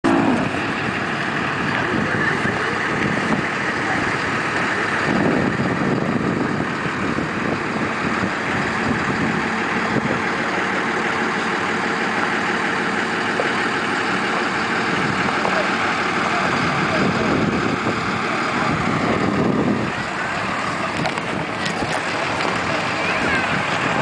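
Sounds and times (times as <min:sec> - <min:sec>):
engines idling: 0:00.0 - 0:24.0.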